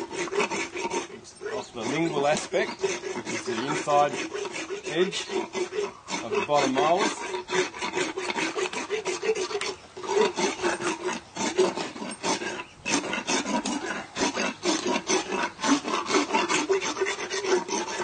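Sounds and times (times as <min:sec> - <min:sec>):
dental rasp filing teeth: 0:00.0 - 0:18.0.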